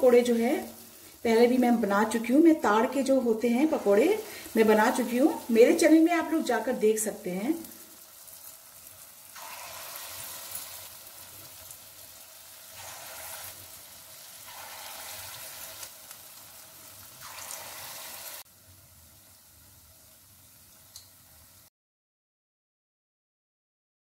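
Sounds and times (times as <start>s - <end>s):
batter sizzling in hot oil: 0.0s - 21.7s.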